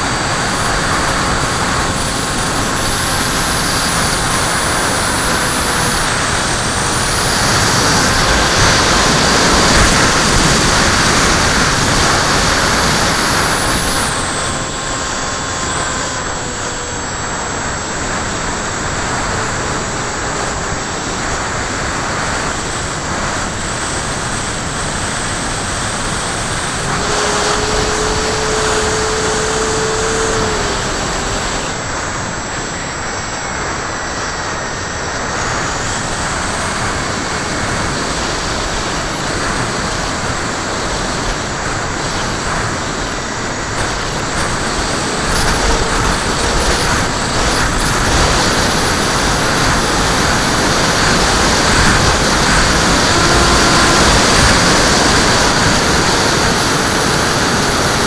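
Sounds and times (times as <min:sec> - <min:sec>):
faint electric motor tone: 0:00.0 - 0:58.0
wind rushing over camera: 0:00.0 - 0:58.0.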